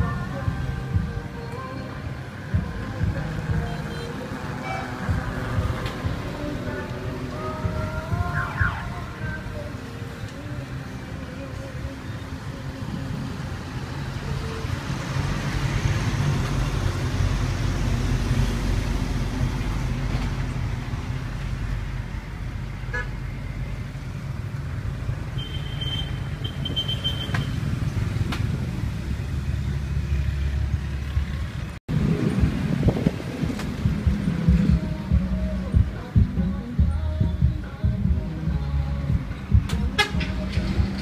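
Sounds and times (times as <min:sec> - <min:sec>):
passing traffic rumble: 0:00.0 - 0:41.0.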